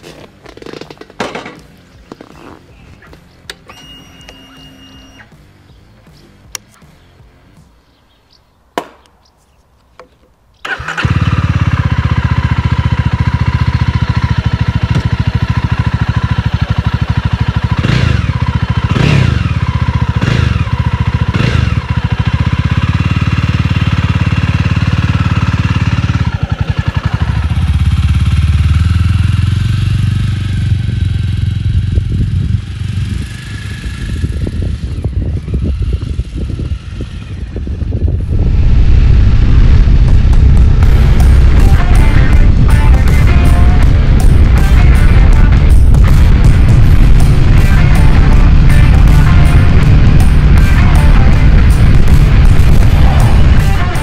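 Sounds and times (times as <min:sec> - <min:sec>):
motorcycle engine idling and revving: 0:00.0 - 0:09.0, 0:10.0 - 0:54.0.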